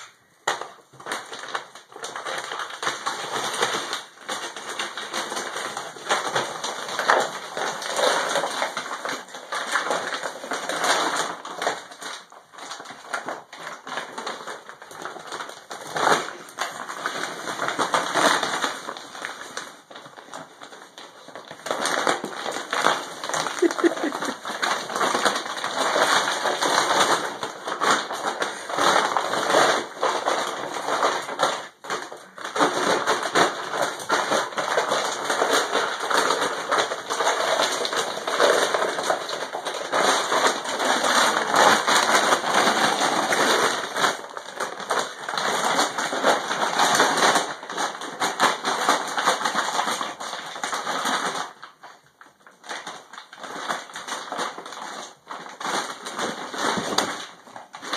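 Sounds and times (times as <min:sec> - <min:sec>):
plastic bag crinkling: 0:00.0 - 0:57.9.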